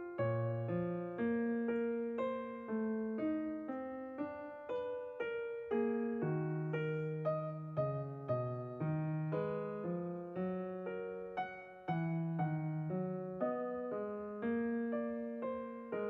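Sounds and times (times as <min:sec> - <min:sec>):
calm piano tune: 0:00.0 - 0:16.0.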